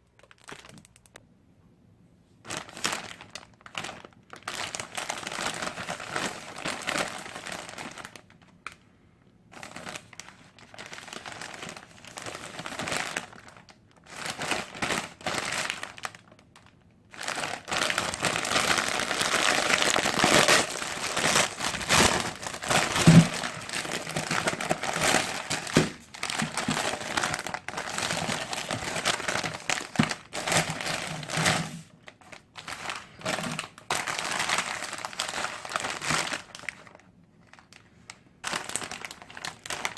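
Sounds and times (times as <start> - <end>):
plastic packet crinkling: 0.0 - 1.2, 2.5 - 8.8, 9.5 - 39.9.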